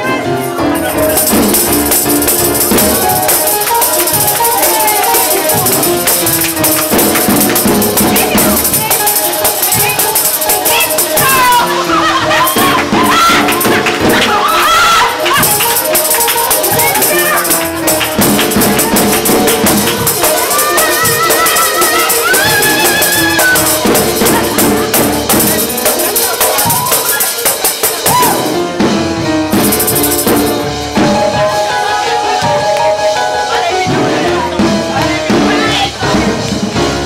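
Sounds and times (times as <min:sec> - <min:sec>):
voices singing: 0:00.0 - 0:28.5, 0:31.0 - 0:37.0
live band playing: 0:00.0 - 0:37.0
tambourine shaking: 0:00.4 - 0:28.6, 0:29.5 - 0:31.4.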